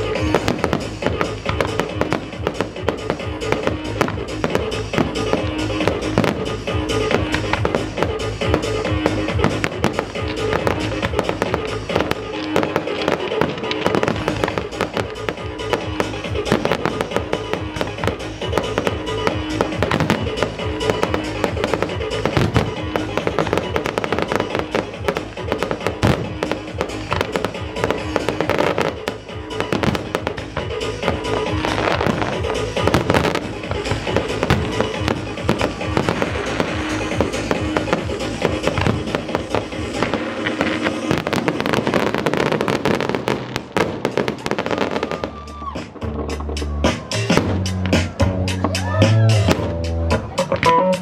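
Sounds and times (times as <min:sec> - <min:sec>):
fireworks crackling and banging: 0:00.0 - 0:51.0
music: 0:00.0 - 0:51.0.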